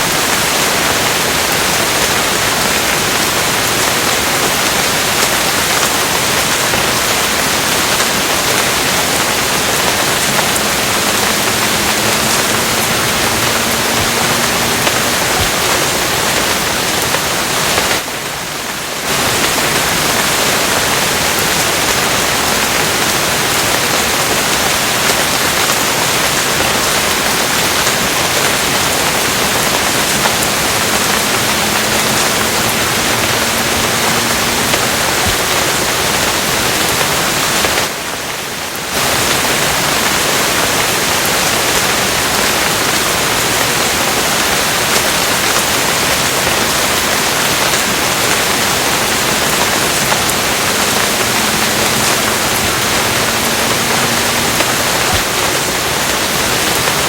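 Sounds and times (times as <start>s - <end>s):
dense rainfall: 0.0s - 57.0s.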